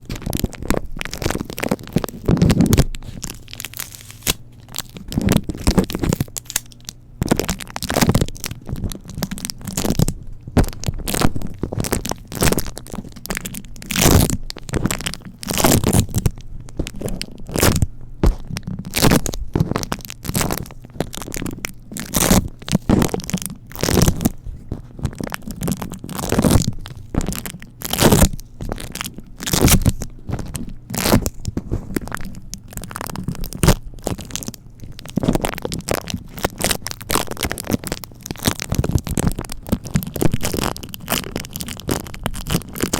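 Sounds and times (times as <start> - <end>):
sticky tape crackling on microphone: 0.0 - 42.9.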